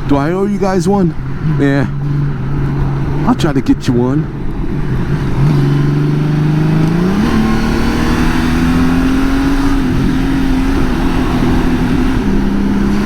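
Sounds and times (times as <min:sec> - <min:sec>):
motorcycle engine revving: 0:01.1 - 0:13.0.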